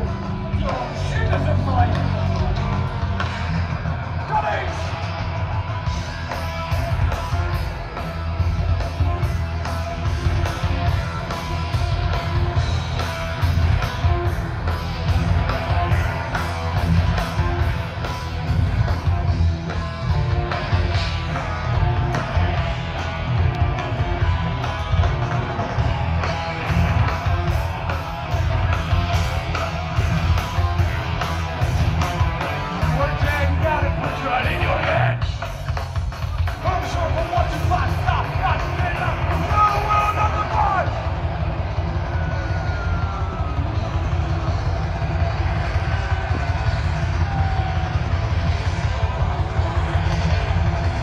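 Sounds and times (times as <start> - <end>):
distorted electric guitars: 0.0 - 51.0
driving drum beat: 0.0 - 51.0
heavy metal band playing: 0.0 - 51.0.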